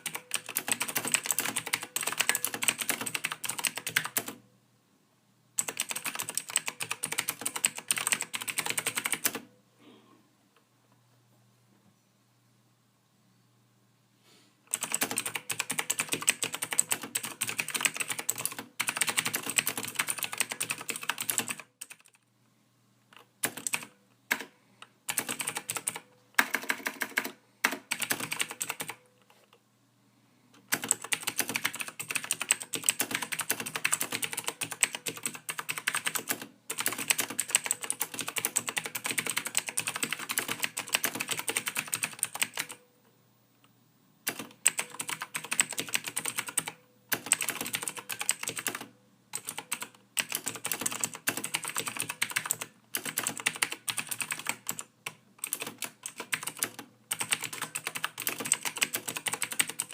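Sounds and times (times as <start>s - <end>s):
computer keyboard typing: 0.0s - 4.4s, 5.6s - 9.5s, 14.7s - 22.2s, 23.1s - 29.0s, 30.6s - 42.8s, 44.2s - 59.9s.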